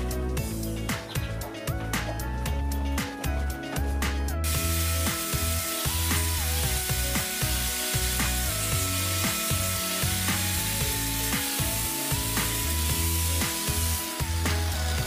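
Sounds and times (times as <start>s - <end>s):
music with a steady beat: 0.0s - 15.0s.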